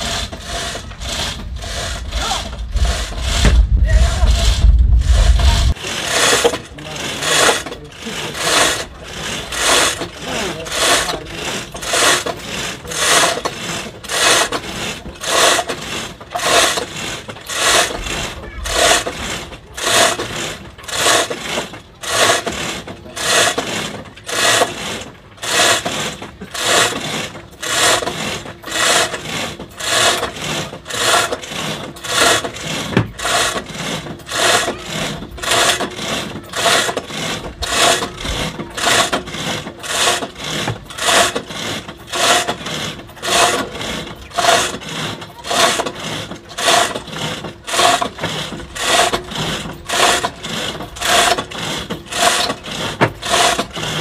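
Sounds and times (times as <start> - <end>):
pulley creaking under load: 0.0 - 54.0.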